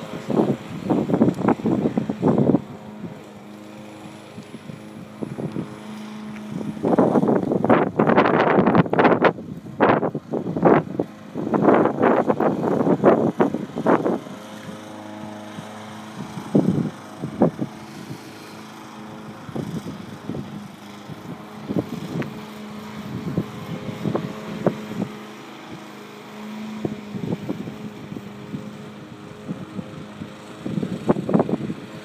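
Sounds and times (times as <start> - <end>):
electric motor hum: 0.0 - 32.0.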